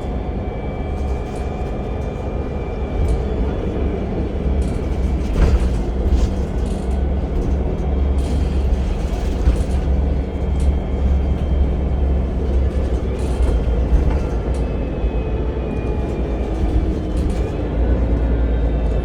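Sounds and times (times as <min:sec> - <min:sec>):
vehicle low rumble: 0:00.0 - 0:19.0.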